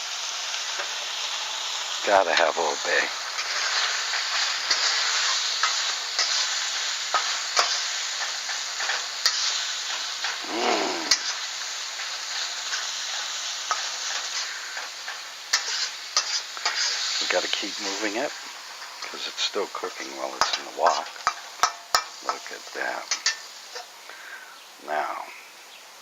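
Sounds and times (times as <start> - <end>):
food sizzling in oil in a wok: 0.0 - 26.0.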